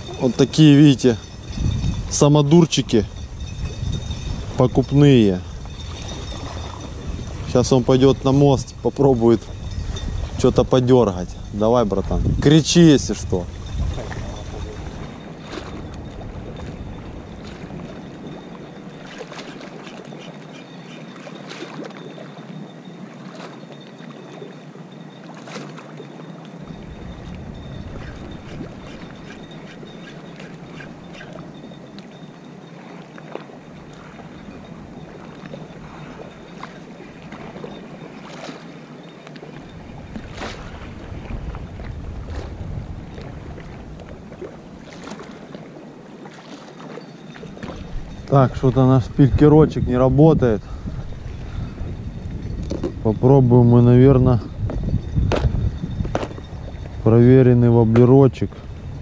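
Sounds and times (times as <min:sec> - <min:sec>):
gusty wind: 0:00.0 - 0:20.3, 0:26.6 - 0:32.7, 0:33.5 - 0:46.2, 0:47.3 - 0:59.0
water lapping and slapping: 0:00.0 - 0:59.0.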